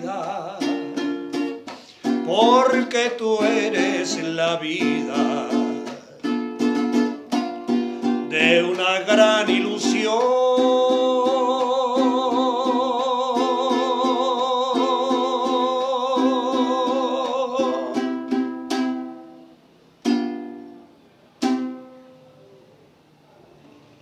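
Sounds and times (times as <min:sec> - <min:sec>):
man singing with vibrato: 0:00.0 - 0:19.4
ukulele strumming: 0:00.0 - 0:22.3.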